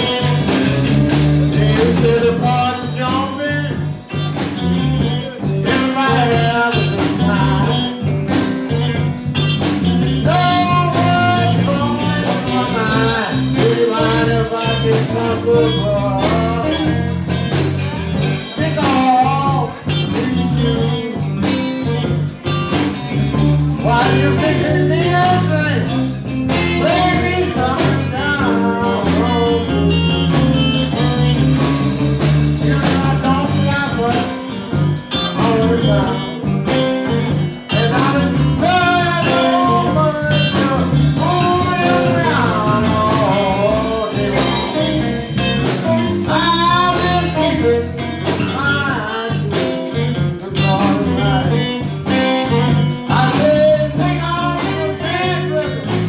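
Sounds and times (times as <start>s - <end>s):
man singing into a microphone: 0.0s - 8.1s, 9.5s - 17.4s, 18.1s - 22.0s, 23.8s - 31.4s, 32.4s - 56.0s
electric blues band playing: 0.0s - 56.0s.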